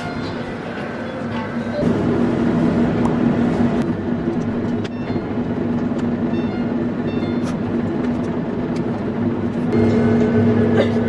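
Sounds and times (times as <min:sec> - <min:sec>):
low hum and rumble of store: 0:00.0 - 0:11.0.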